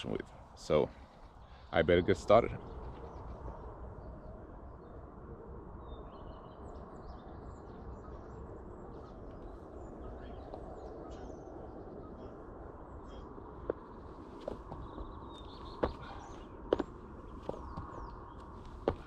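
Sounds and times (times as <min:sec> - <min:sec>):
birds chirping: 0:00.0 - 0:05.1, 0:05.8 - 0:19.0
steady low background noise: 0:00.0 - 0:19.0.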